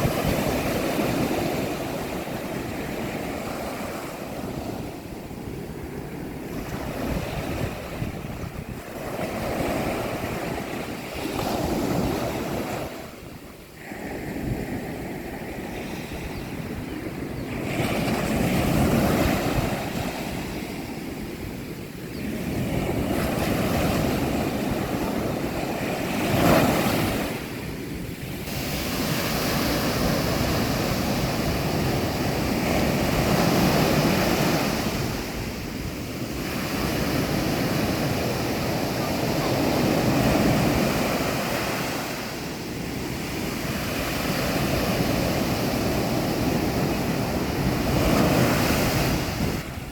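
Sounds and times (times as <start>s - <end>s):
waves breaking on beach: 0.0s - 49.9s
wind rumble on microphone: 0.0s - 49.9s.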